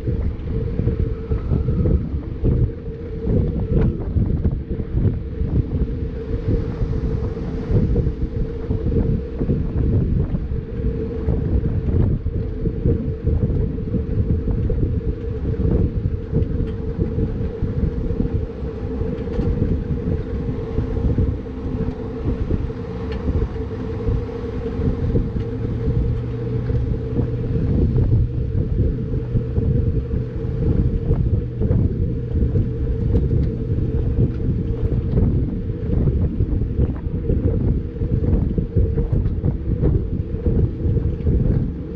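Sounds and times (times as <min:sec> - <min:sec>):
car engine drone: 0:00.0 - 0:41.9
low steady hum: 0:00.0 - 0:41.9
wind and road rumble: 0:00.0 - 0:41.9.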